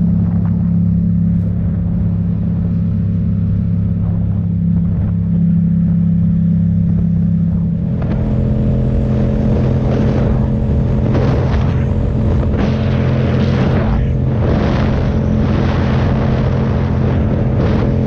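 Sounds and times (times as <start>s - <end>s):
motorcycle engine cruising: 0.0s - 18.0s
wind rush: 0.0s - 18.0s.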